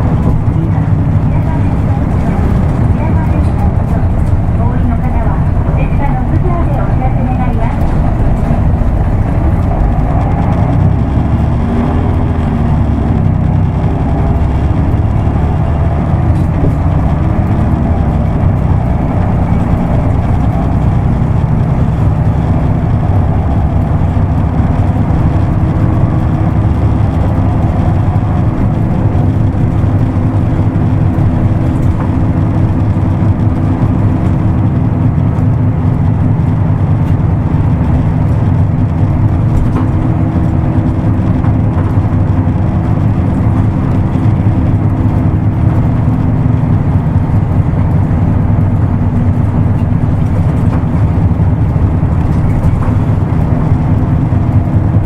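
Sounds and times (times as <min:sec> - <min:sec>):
bus diesel engine running: 0:00.0 - 0:55.0
road noise: 0:00.0 - 0:55.0.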